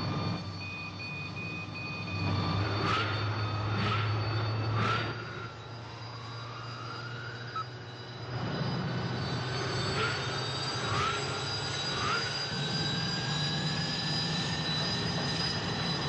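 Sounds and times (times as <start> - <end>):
motor hum and rising whine: 0.0 - 16.0.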